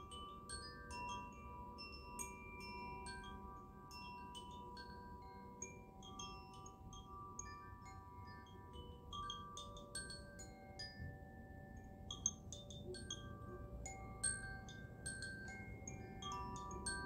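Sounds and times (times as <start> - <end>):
chimes ringing softly: 0.0 - 17.0
faint low background hiss: 0.0 - 17.0.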